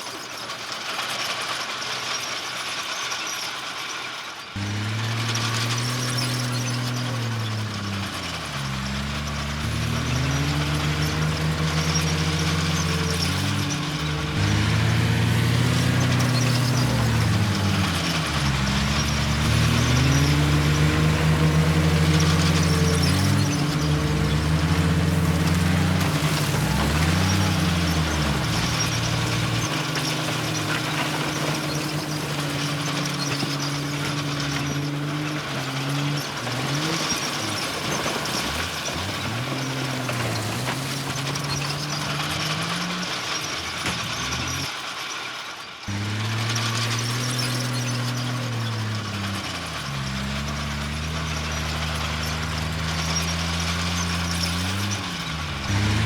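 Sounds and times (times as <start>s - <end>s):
bulldozer diesel engine revving: 4.6s - 45.1s, 45.8s - 56.0s.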